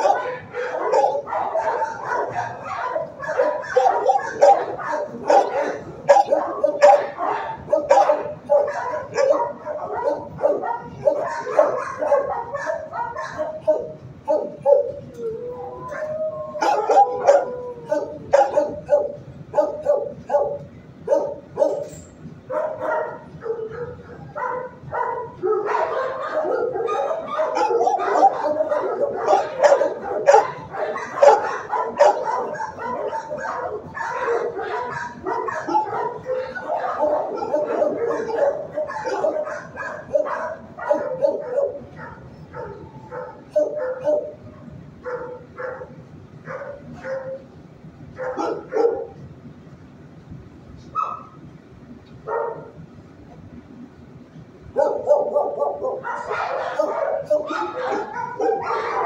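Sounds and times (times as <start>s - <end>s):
dog howling: 0.0s - 21.9s, 22.6s - 44.4s, 54.8s - 59.0s
dogs barking: 0.0s - 49.3s, 50.9s - 51.4s, 52.2s - 52.8s, 54.7s - 59.0s.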